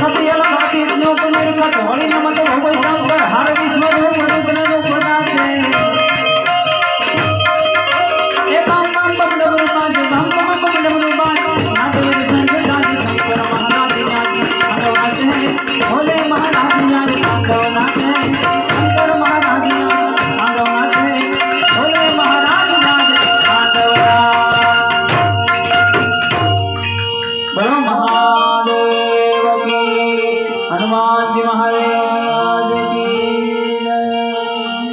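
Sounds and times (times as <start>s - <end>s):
rattling percussion: 0.0s - 28.4s
melodic instruments: 0.0s - 34.9s.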